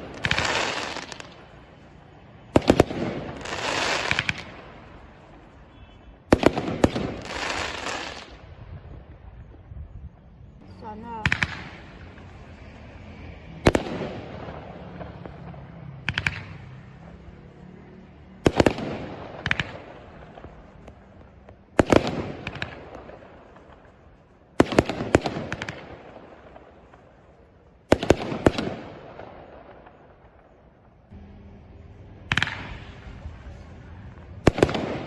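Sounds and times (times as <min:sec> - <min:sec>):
fireworks bursting with crackle: 0:00.0 - 0:12.9, 0:13.5 - 0:17.6, 0:18.2 - 0:31.1, 0:32.0 - 0:35.0.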